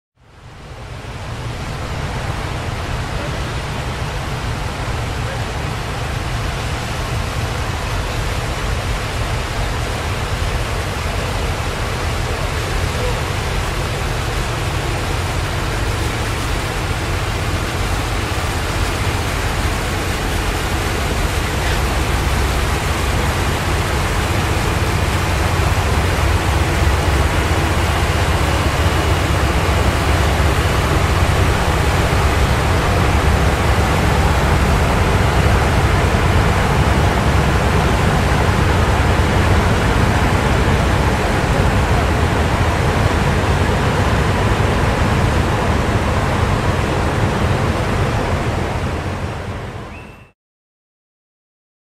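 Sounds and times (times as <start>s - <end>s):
rushing water hiss: 0.4s - 50.0s
motorboat engine drone: 0.5s - 49.8s.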